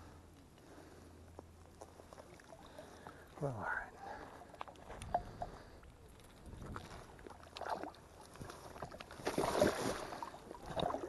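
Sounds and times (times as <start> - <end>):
water sloshing and splashing: 1.7 - 11.0.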